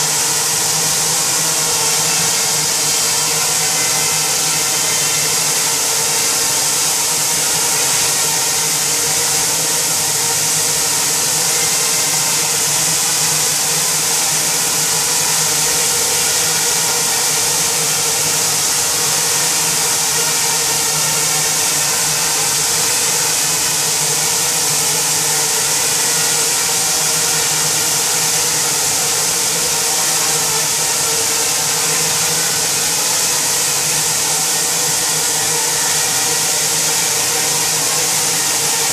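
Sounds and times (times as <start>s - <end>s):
propeller hiss: 0.0s - 38.9s
drone propellers buzzing: 7.6s - 38.9s.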